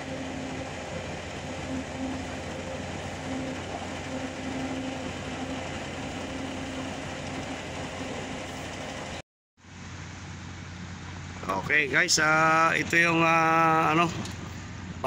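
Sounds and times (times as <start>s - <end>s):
bus engine humming: 0.0s - 15.0s.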